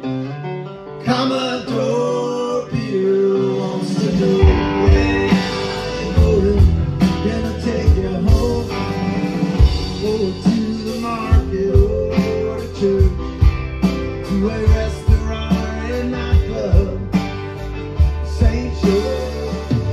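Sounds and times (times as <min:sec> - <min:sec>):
bass guitar: 0:00.0 - 0:19.9
electric guitar: 0:00.0 - 0:19.9
strummed acoustic guitar: 0:01.0 - 0:19.9
drums keeping a beat: 0:02.8 - 0:19.9.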